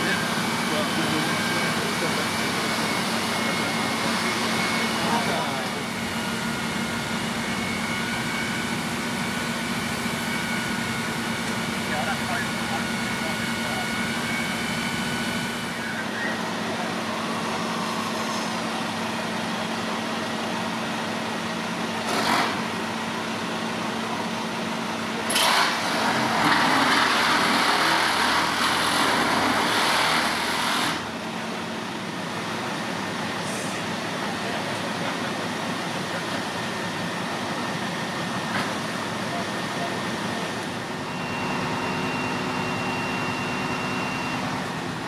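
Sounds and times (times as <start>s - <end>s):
fire engine hum: 0.0s - 45.0s.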